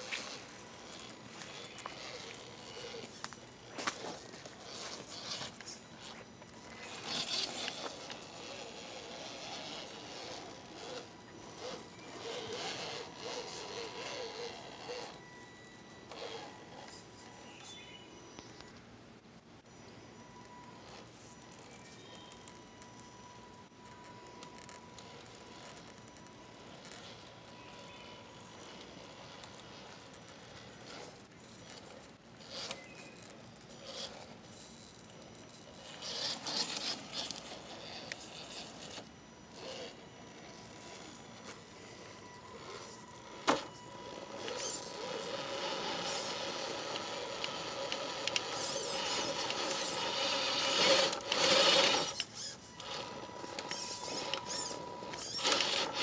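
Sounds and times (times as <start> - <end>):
rc car motor whining: 0.0 - 18.8, 19.7 - 56.0.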